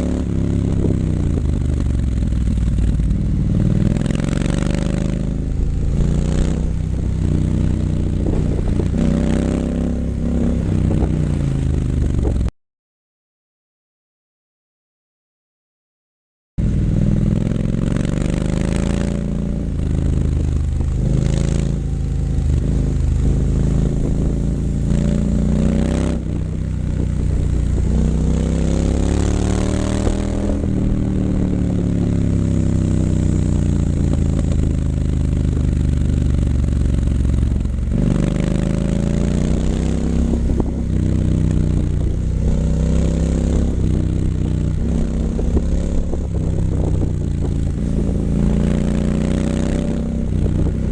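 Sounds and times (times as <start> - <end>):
motorcycle engine revving: 0.0 - 12.5, 16.6 - 50.9.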